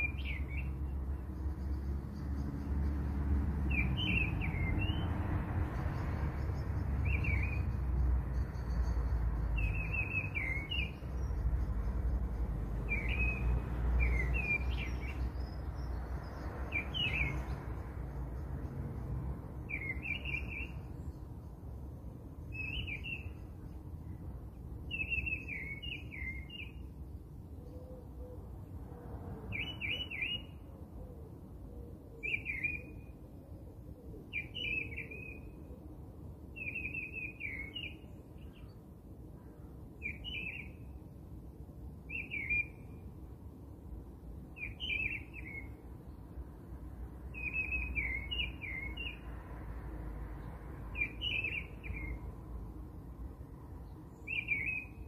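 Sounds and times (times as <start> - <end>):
songbird chirping: 0.0 - 33.2, 33.8 - 55.0.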